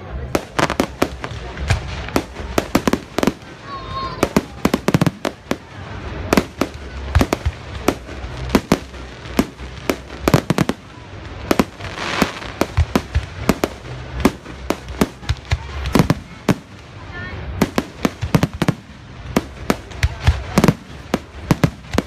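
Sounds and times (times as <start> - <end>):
fireworks bangs: 0.0 - 22.0
fireworks crackling hiss: 0.0 - 22.0.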